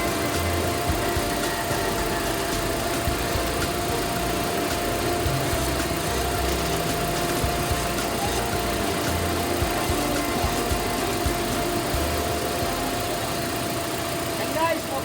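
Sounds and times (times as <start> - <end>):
pickup engine idling: 0.0 - 15.0
thin steady whine: 0.0 - 15.0.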